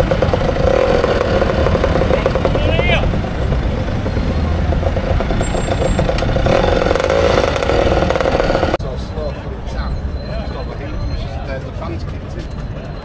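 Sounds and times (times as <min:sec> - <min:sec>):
scooter engines running: 0:00.0 - 0:13.0.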